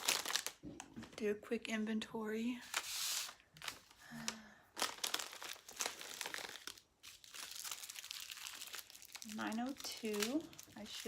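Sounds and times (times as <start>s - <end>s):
plastic bags crinkling: 0.0s - 0.7s, 2.7s - 11.0s.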